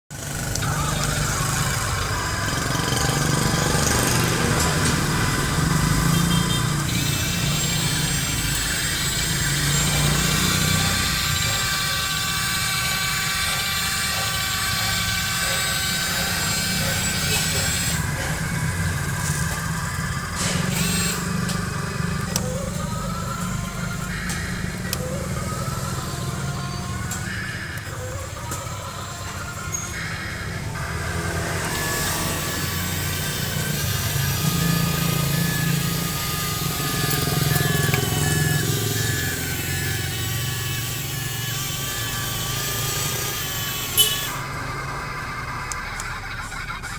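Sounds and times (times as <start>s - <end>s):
model excavator engine hum: 0.1s - 46.9s
high-pitched whine: 0.2s - 45.8s.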